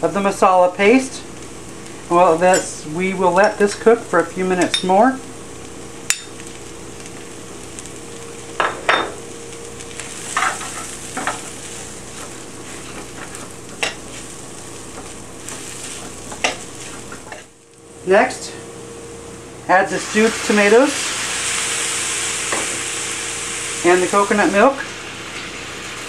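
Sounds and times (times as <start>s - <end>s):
food sizzling in a skillet: 0.0s - 26.0s.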